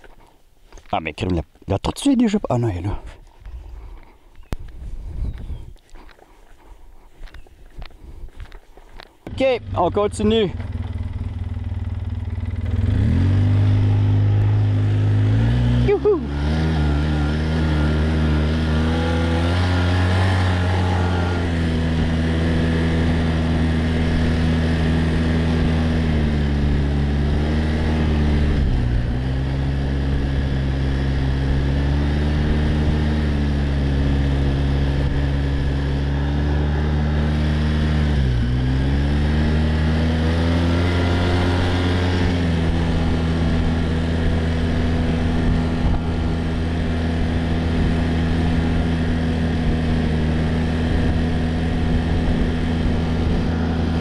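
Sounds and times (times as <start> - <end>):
quad bike engine running: 9.2 - 54.0.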